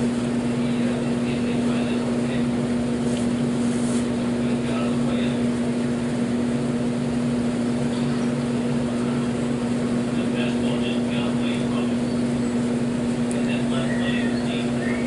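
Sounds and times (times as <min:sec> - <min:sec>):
air fryer motor and fan hum: 0:00.0 - 0:15.0.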